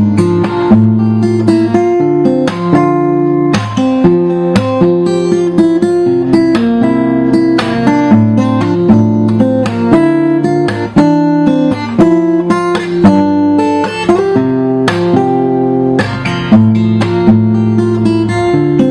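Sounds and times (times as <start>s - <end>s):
acoustic guitar strummed chords: 0.0s - 18.9s.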